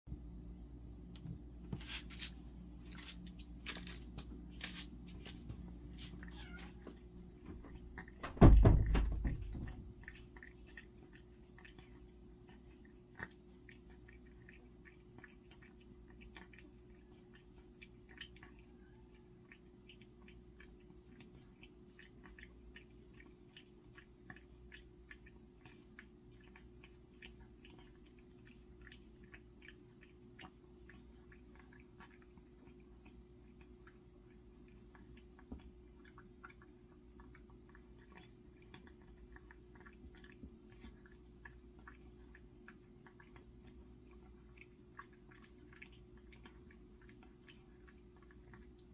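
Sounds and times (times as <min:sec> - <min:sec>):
cat chewing and eating: 0:00.2 - 0:48.9.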